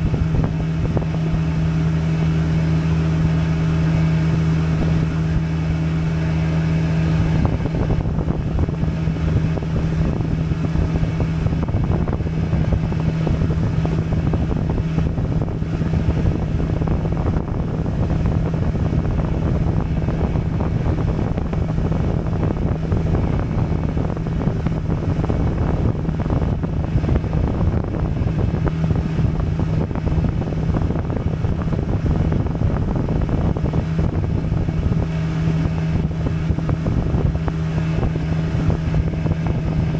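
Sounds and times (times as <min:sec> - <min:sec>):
boat motor humming: 0:00.0 - 0:39.9
wind buffeting microphone: 0:00.0 - 0:39.9.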